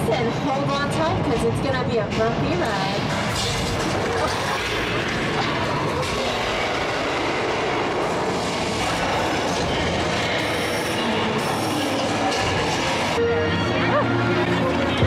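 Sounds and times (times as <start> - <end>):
tram rumbling and rattling: 0.0 - 13.3.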